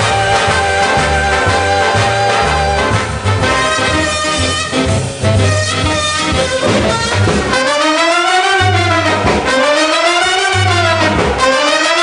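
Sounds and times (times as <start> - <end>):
brass music with bass line: 0.0 - 12.0.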